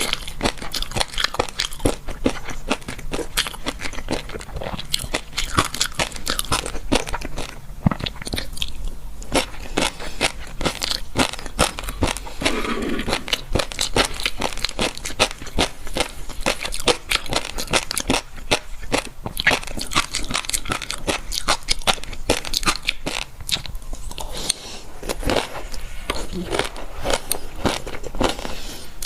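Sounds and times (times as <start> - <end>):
chewing crunchy food: 0.0 - 29.0.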